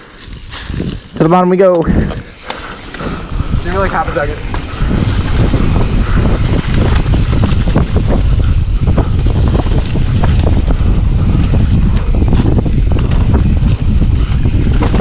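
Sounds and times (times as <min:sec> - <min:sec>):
bike clattering over rough trail: 0:00.0 - 0:15.0
wind buffeting microphone: 0:00.0 - 0:15.0
low rumble: 0:01.9 - 0:15.0.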